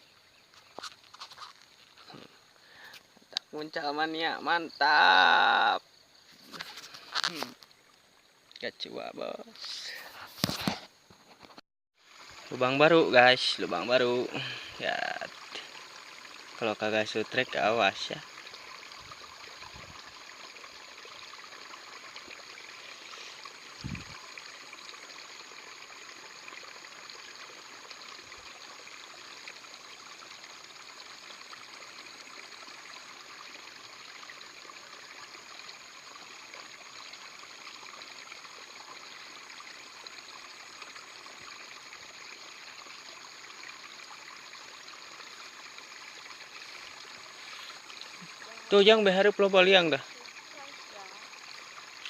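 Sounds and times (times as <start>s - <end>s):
stream flowing water: 0.0s - 52.0s.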